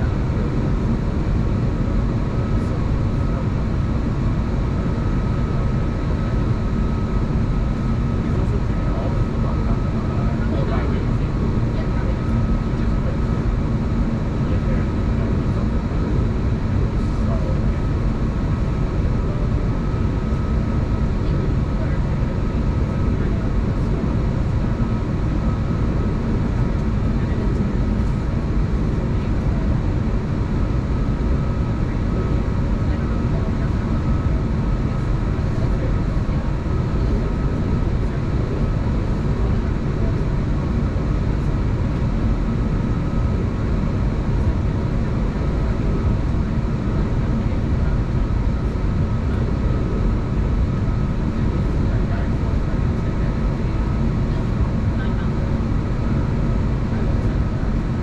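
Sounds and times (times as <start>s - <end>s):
cabin air running: 0.0s - 58.0s
faint steady whine: 0.0s - 58.0s
jet engines idling: 0.0s - 58.0s.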